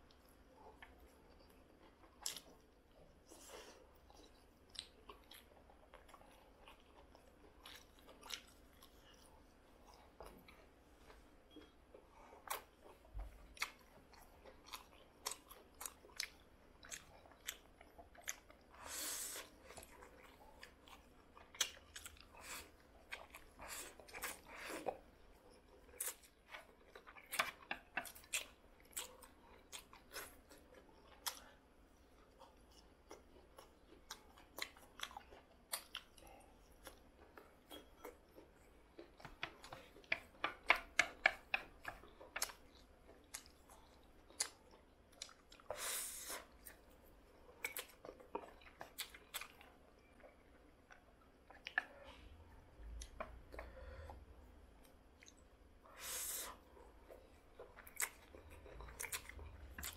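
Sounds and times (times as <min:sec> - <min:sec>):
wet chewing and lip-smacking: 0:00.0 - 0:55.9, 0:56.5 - 0:59.9.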